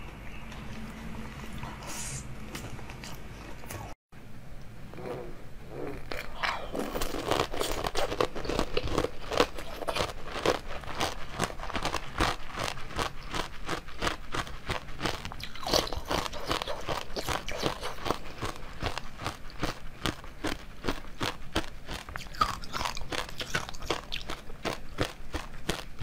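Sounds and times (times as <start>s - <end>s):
chewing jelly: 5.0s - 26.0s.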